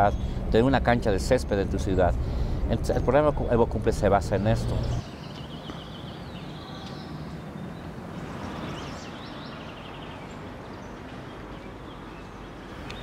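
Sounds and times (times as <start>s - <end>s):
distant urban noise: 0.0s - 13.0s
small birds chirping: 0.0s - 13.0s.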